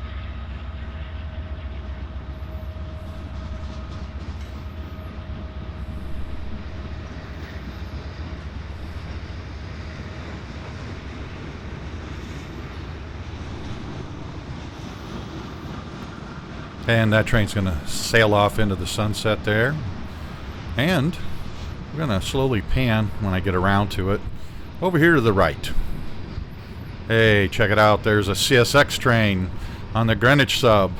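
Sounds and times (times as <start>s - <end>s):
freight train wheels rumbling on rail: 0.0s - 30.9s.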